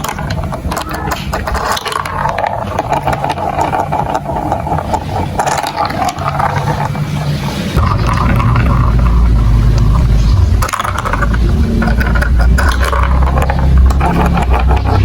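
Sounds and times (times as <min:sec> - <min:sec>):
marbles rolling on plastic track: 0:00.0 - 0:15.0.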